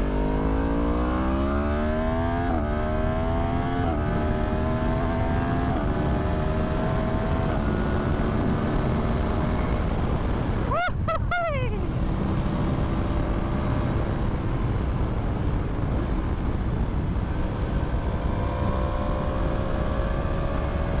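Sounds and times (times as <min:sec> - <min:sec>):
motorcycle engine drone: 0:00.0 - 0:21.0.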